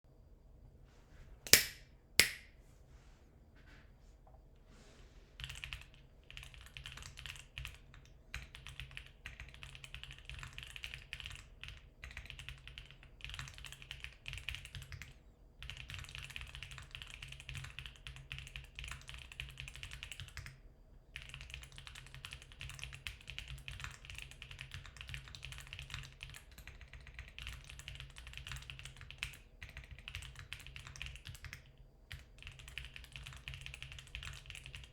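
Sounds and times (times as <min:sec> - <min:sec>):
fast mechanical keyboard typing: 0:05.4 - 0:20.6, 0:21.2 - 0:34.9.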